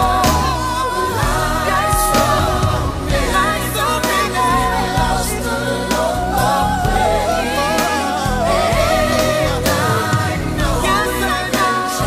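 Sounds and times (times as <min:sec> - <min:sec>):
song with singing over beat: 0:00.0 - 0:12.0.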